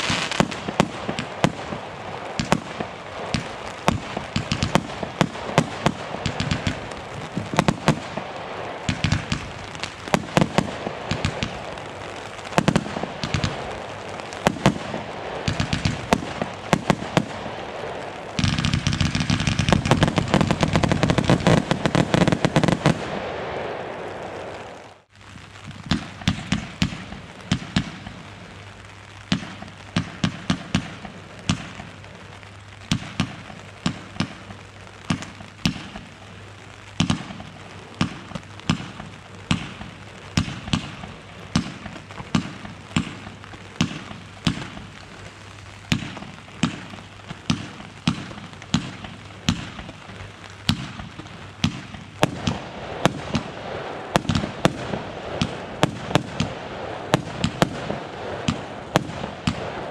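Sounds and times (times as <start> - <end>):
firework bangs: 0.0 - 59.9
fireworks crackling: 0.0 - 59.9.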